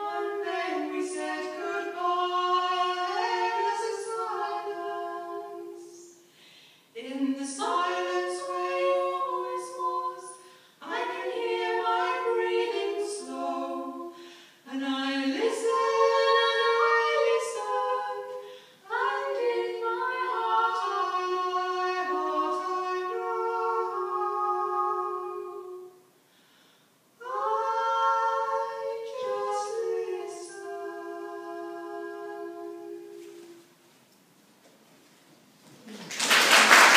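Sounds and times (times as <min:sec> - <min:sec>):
two women singing unaccompanied: 0:00.0 - 0:26.2, 0:27.2 - 0:33.8.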